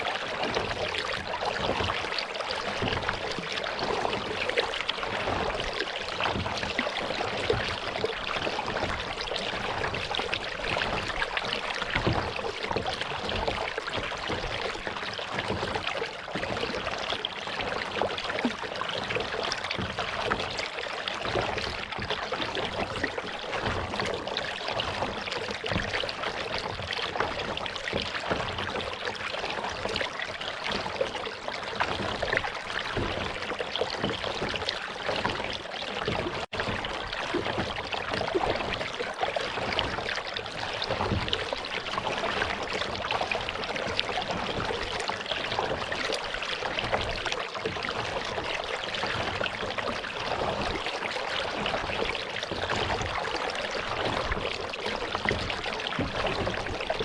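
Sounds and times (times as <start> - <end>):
water trickling and lapping: 0.0 - 57.0.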